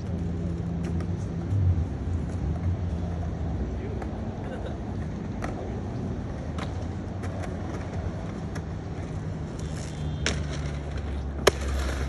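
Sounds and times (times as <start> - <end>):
skate wheels rolling on concrete: 0.0 - 12.0.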